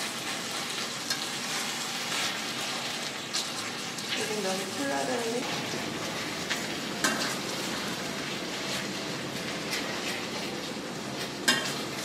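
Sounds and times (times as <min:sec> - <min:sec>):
noodles sizzling in a pot: 0:00.0 - 0:12.0.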